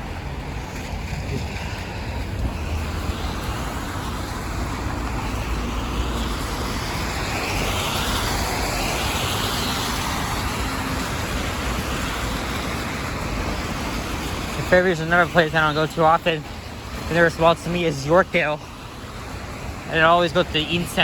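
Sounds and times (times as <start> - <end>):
low rumble of engines: 0.0 - 21.0
tyre hiss on wet pavement: 1.8 - 21.0.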